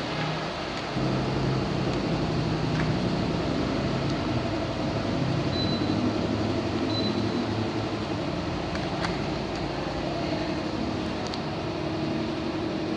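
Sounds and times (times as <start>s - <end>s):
air conditioner fan humming: 0.0s - 12.9s.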